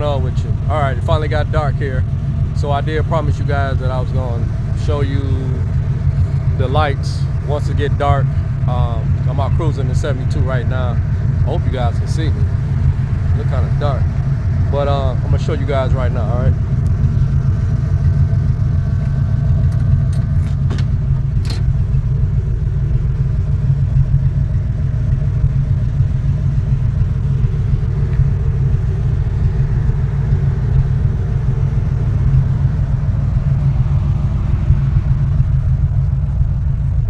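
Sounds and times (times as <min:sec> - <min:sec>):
car engine rumble and road noise: 0:00.0 - 0:37.0.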